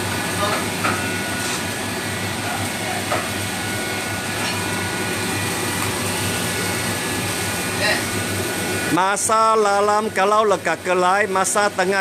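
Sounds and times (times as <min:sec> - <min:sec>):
extraction fan running: 0:00.0 - 0:12.0
gas burners roaring: 0:00.0 - 0:12.0.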